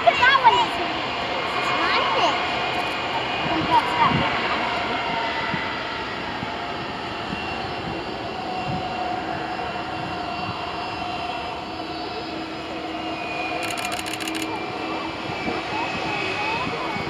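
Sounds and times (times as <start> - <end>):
jet engines landing: 0.0 - 17.0.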